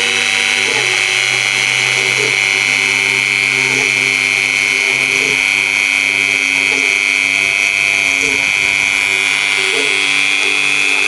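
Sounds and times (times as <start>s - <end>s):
router spindle whining: 0.0s - 11.0s.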